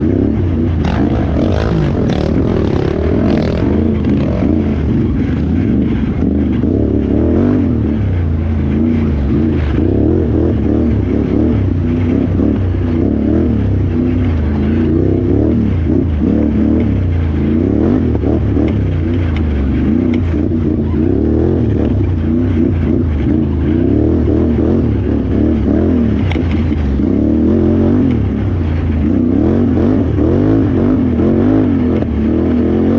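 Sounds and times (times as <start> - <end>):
atv engine revving: 0.0 - 32.9.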